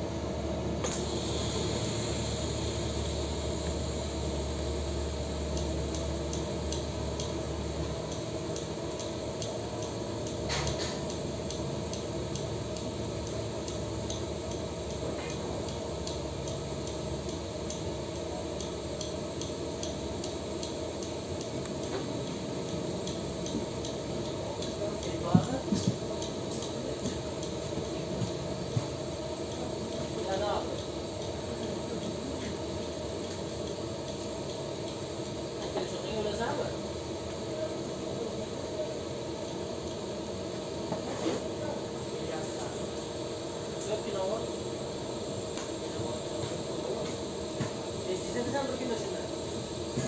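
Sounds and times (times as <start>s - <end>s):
welding arc hissing: 0.8s - 50.0s.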